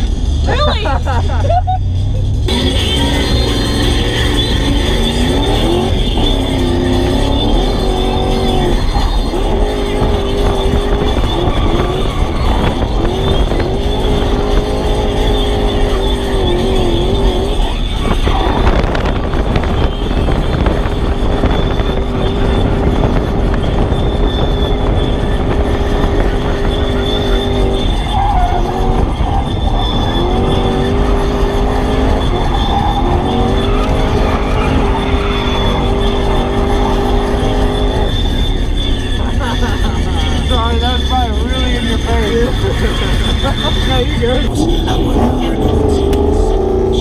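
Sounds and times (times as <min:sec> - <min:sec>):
car engine heard from cabin: 0:00.0 - 0:47.0.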